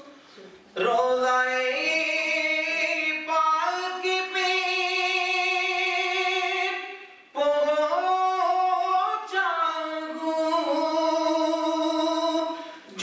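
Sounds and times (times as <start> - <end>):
man singing unaccompanied: 0.8 - 13.0.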